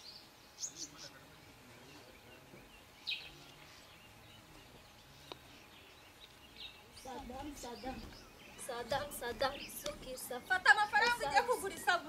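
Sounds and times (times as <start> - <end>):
bird chirps: 0.0 - 11.4.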